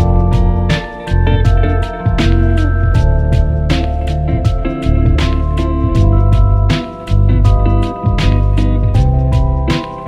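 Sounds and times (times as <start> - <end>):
bass line: 0.0 - 9.8
drum and cymbal hits: 0.0 - 10.0
smooth jazz background music: 0.0 - 10.0.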